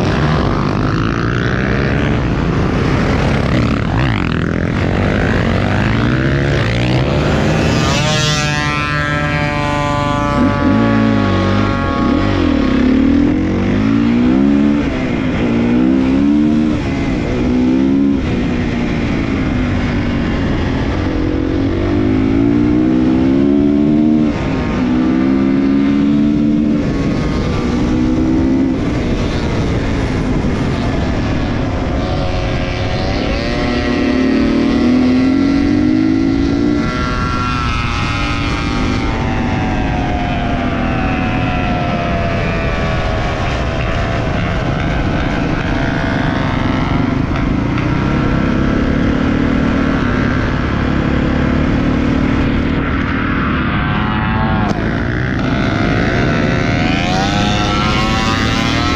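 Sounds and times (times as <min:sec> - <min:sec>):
dirt bike engine revving: 0:00.0 - 0:58.9
other motorcycle engines: 0:00.0 - 0:58.9.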